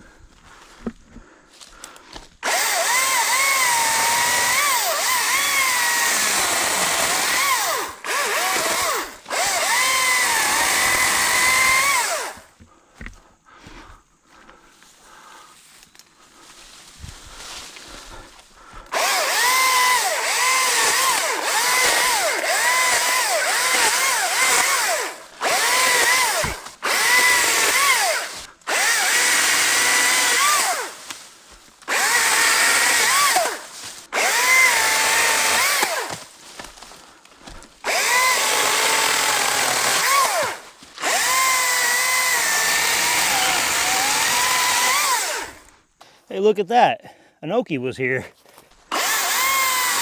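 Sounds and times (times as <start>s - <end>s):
electric chainsaw cutting: 2.2s - 13.1s, 17.4s - 45.8s, 48.9s - 50.0s.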